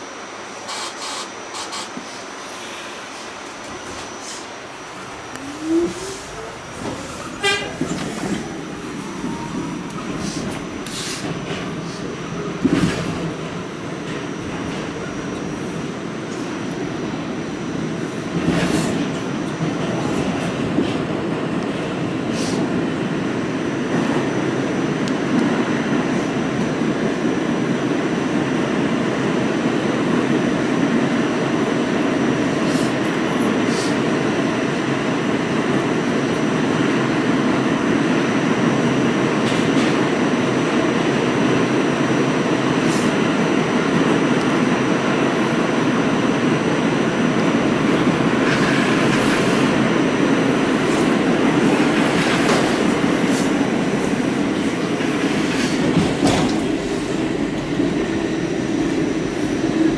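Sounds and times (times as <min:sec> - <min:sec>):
subway wheels rumbling: 0:00.0 - 0:59.9.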